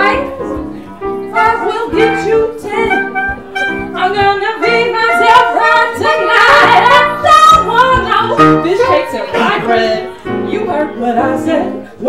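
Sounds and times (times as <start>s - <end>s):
woman singing jazz: 0.0s - 0.6s, 1.3s - 12.0s
piano: 0.0s - 12.0s.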